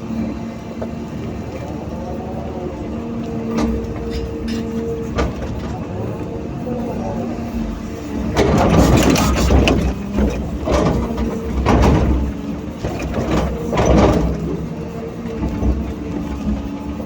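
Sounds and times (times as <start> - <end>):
excavator diesel engine running: 0.0 - 17.0
excavator digging and loading sand: 0.0 - 17.0.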